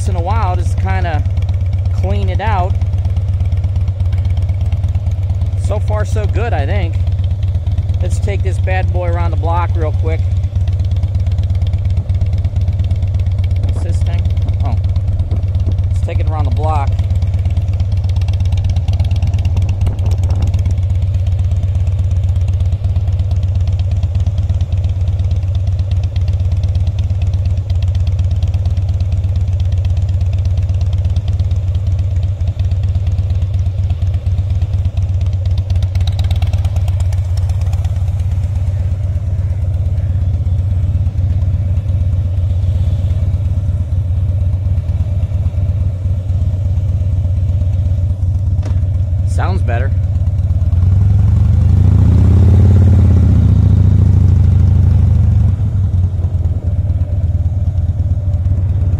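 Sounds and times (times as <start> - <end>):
motorcycle engine idling: 0.0 - 58.9.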